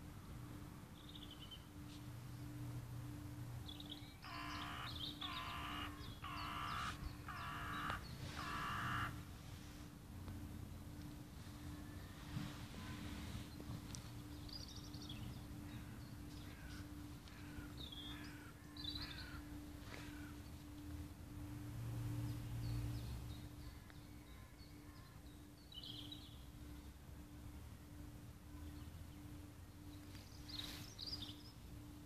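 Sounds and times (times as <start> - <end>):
faint hum: 0.0 - 32.0
wild birds chirping: 0.9 - 10.4, 11.4 - 32.0.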